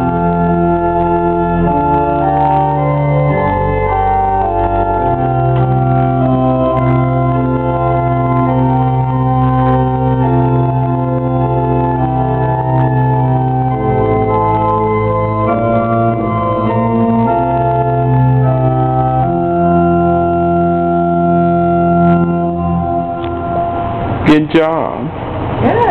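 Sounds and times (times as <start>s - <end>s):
church organ playing a hymn: 0.0s - 25.2s.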